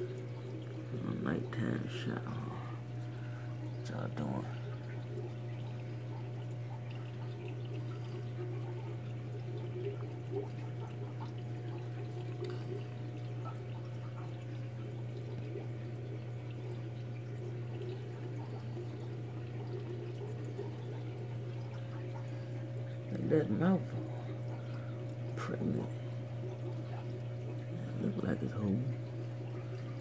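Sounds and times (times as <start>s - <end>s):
constant low hum: 0.0s - 30.0s
trickling water: 0.0s - 30.0s.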